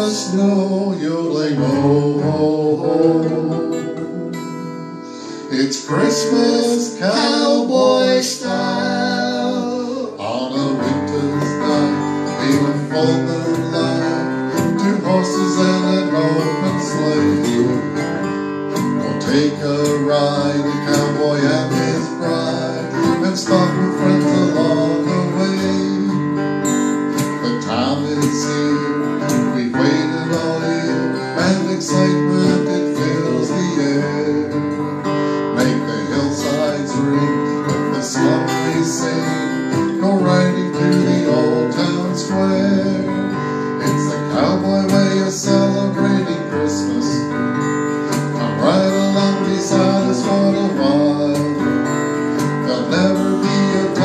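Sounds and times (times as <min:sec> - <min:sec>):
acoustic guitars strumming: 0:00.0 - 0:54.0.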